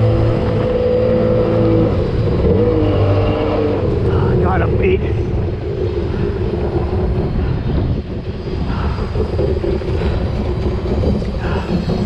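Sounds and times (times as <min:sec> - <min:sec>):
jet ski engine droning: 0:00.0 - 0:12.0.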